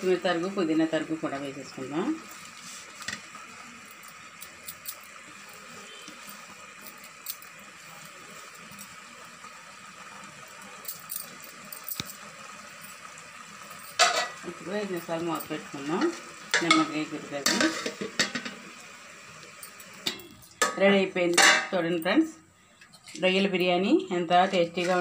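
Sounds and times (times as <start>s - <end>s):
pot hissing softly: 0.0s - 25.0s.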